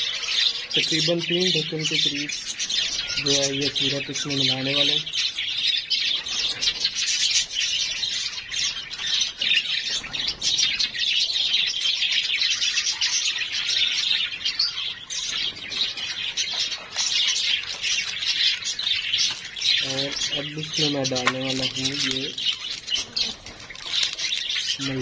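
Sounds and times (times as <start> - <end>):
budgerigars chattering and chirping: 0.0 - 25.0.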